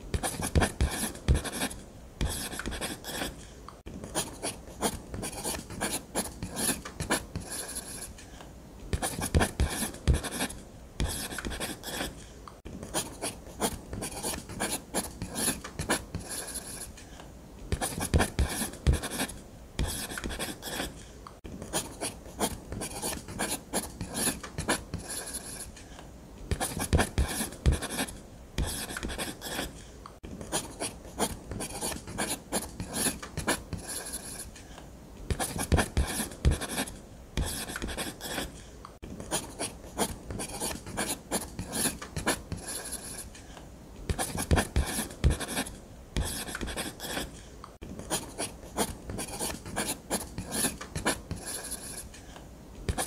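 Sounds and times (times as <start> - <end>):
pen scratching on paper: 0.1 - 3.4, 4.1 - 8.2, 9.0 - 12.2, 12.8 - 17.0, 17.7 - 21.0, 21.6 - 25.8, 26.5 - 29.8, 30.4 - 34.5, 35.3 - 38.6, 39.2 - 43.4, 44.1 - 47.4, 48.0 - 52.1.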